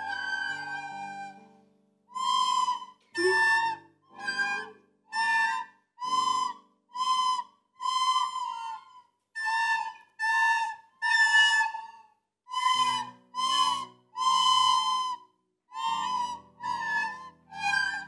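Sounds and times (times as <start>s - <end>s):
children playing recorders: 0.0s - 1.4s, 2.2s - 15.2s, 15.8s - 18.0s.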